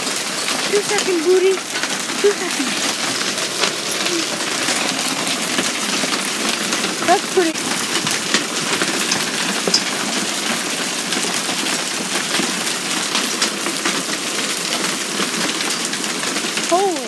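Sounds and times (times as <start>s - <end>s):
hail ticking on wooden deck: 0.0s - 17.0s
steady rain: 0.0s - 17.0s.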